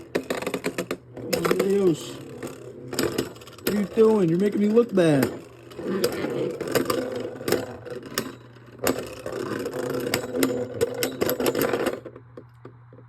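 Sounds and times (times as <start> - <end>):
spinning tops clashing clicks: 0.0 - 12.2
spinning tops whirring: 0.0 - 12.2.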